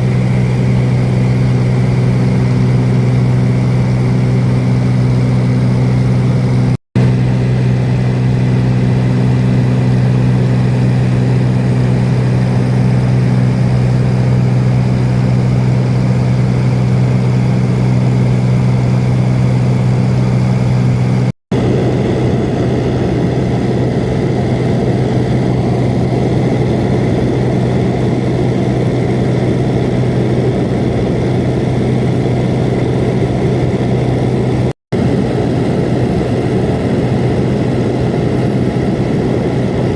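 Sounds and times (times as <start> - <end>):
seaplane engine droning: 0.0 - 39.9.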